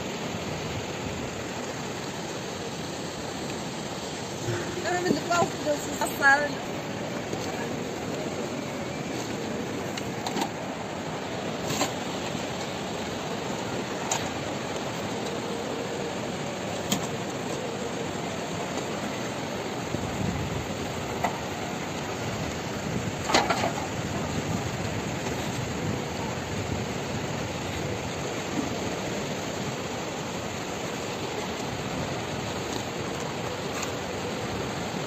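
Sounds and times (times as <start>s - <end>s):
mountain river rushing: 0.0s - 35.0s.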